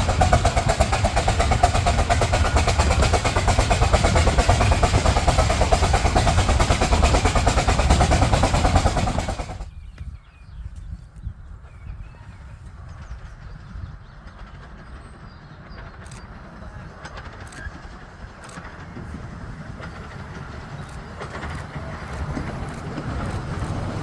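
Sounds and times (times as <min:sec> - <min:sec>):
miniature locomotive running: 0:00.0 - 0:09.8, 0:12.7 - 0:24.0.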